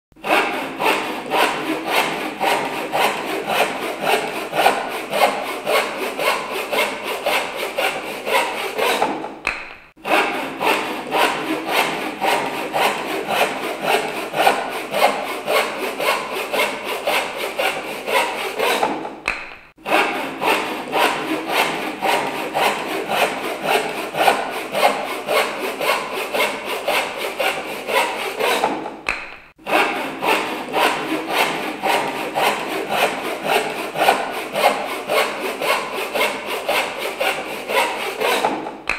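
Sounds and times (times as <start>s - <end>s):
hand saw cutting: 0.1s - 38.9s.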